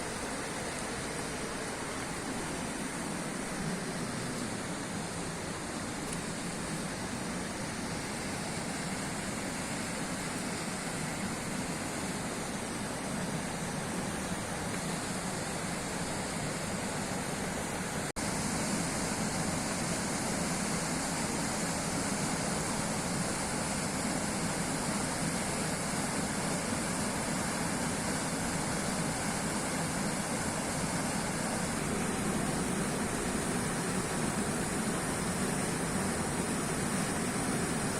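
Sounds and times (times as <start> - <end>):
river water rushing over falls: 0.0 - 37.9.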